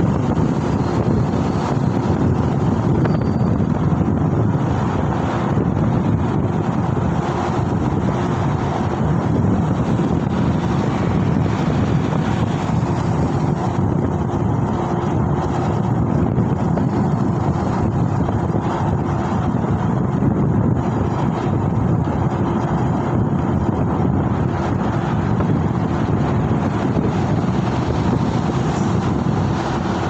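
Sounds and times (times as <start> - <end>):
vehicle noise: 0.0 - 30.0
wind rushing over microphone: 0.0 - 30.0.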